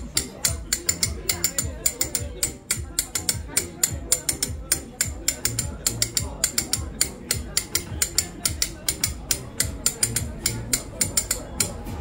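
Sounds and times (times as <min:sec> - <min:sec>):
metal blade tapping clay pot: 0:00.0 - 0:12.0.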